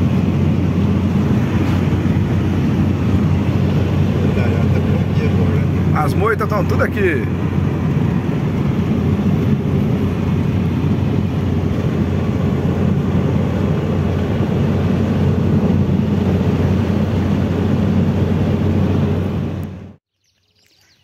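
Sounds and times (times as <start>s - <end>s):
car engine drone: 0.0s - 20.0s
constant low hum: 0.0s - 20.0s
road and wind noise: 0.0s - 21.0s.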